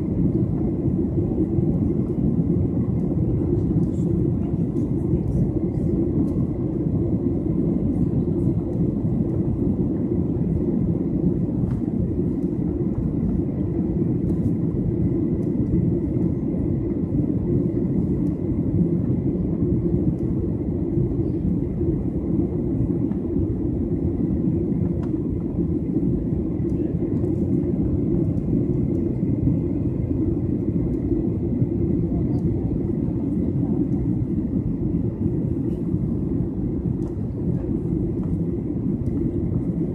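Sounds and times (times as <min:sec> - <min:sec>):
jet engine and airflow rush: 0:00.0 - 0:39.9.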